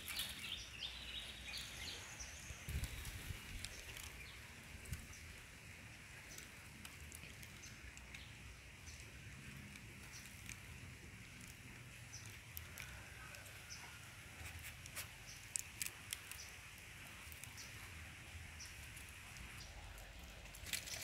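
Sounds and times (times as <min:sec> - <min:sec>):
dry leaves crackling: 0:02.7 - 0:21.0.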